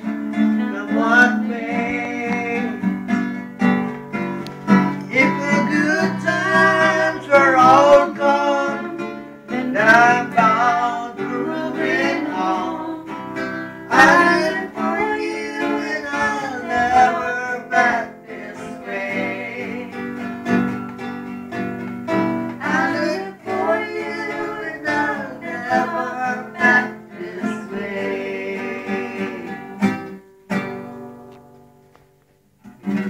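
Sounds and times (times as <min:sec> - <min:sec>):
person singing folk song: 0:00.0 - 0:30.9
acoustic guitar strumming: 0:00.0 - 0:33.0.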